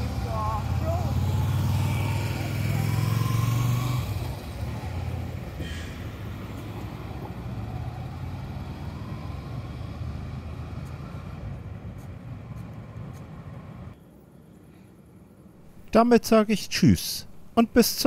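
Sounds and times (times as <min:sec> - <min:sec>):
low street hum: 0:00.0 - 0:18.0.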